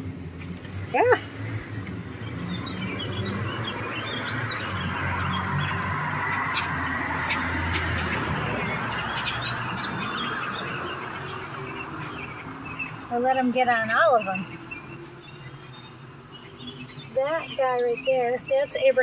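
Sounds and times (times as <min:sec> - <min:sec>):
songbirds chirping and singing: 0:00.0 - 0:19.0.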